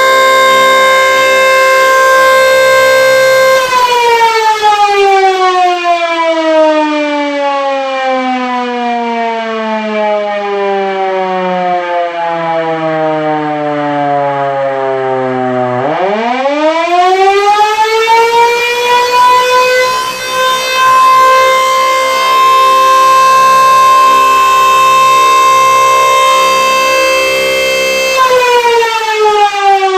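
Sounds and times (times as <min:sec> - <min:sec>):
motor-driven siren: 0:00.0 - 0:29.9.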